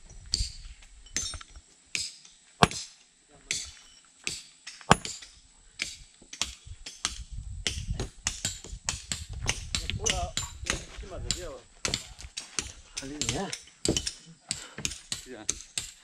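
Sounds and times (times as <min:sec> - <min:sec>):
hand tool strikes: 0:00.3 - 0:16.0.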